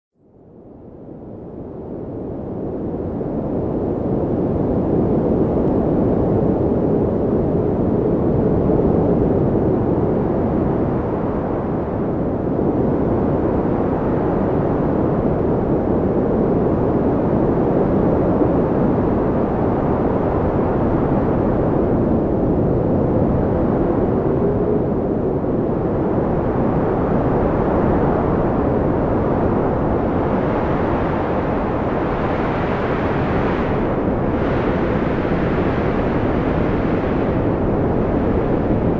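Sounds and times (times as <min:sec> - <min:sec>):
deep rushing wind: 0:01.0 - 0:38.9.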